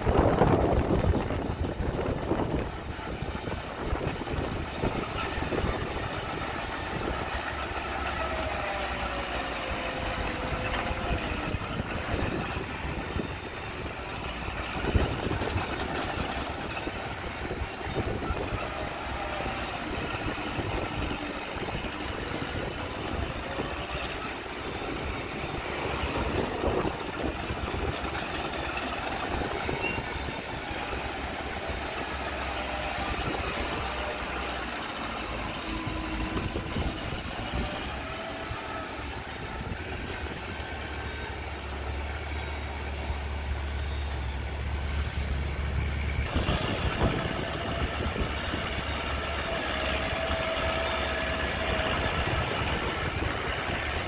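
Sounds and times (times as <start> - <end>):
bulldozer diesel engine rumble: 0.0 - 54.0.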